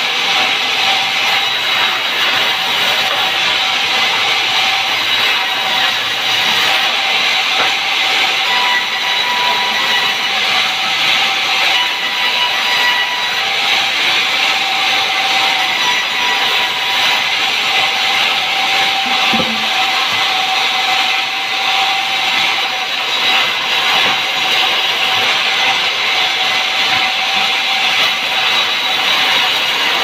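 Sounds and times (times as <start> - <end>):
sawmill saw cutting timber: 0.0 - 30.0.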